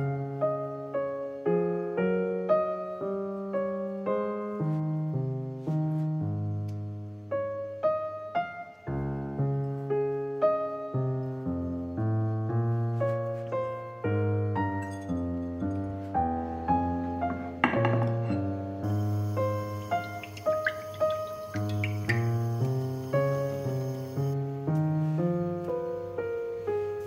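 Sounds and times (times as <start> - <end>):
simple piano melody: 0.0 - 27.0.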